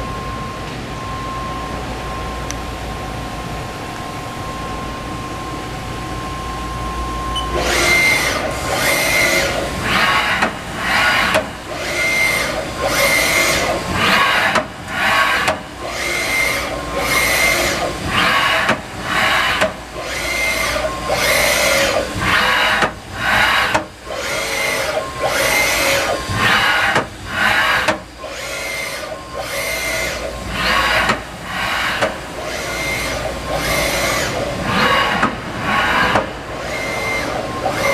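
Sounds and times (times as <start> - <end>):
high machine tone: 0.0 - 37.9
lathe machine running: 0.0 - 37.9.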